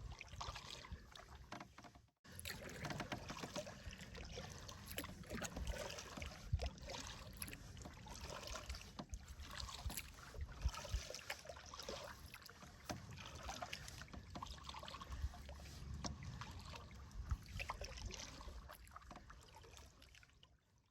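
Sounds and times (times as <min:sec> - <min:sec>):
paddle strokes splashing water: 0:00.0 - 0:20.8.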